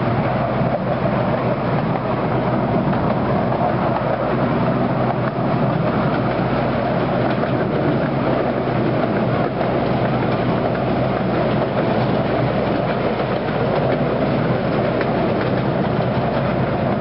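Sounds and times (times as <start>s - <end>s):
wheels running on rails: 0.0s - 17.0s.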